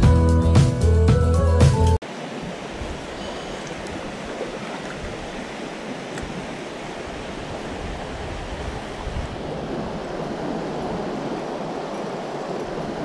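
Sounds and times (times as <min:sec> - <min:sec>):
stream rushing over stones: 0:02.0 - 0:13.0
wind rumble on microphone: 0:02.4 - 0:13.0.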